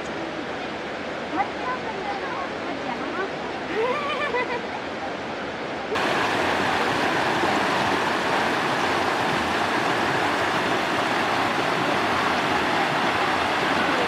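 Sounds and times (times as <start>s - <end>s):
river water flowing over rocks: 0.0s - 14.0s.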